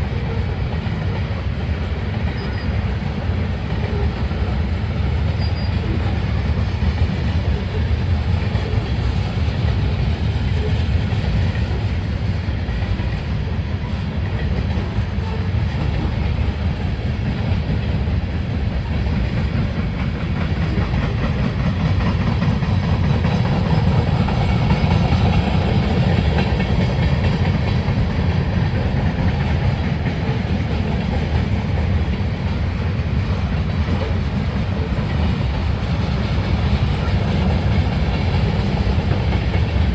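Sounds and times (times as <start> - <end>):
freight cars rumbling on rails: 0.0 - 39.9.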